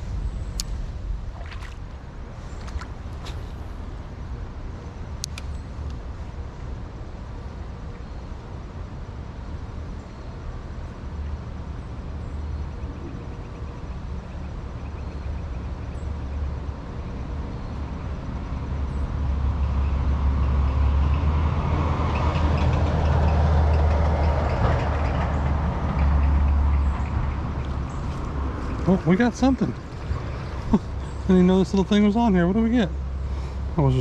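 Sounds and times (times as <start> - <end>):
airplane passing overhead: 0.0 - 8.6, 9.9 - 34.0.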